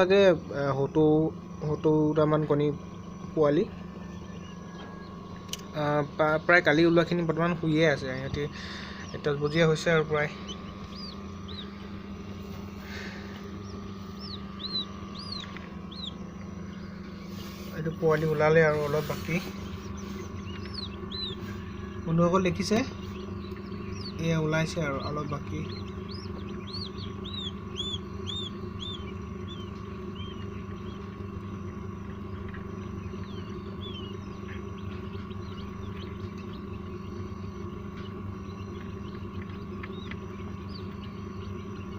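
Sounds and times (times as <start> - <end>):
chicks peeping: 0.0 - 41.9
steady low hum: 0.0 - 41.9.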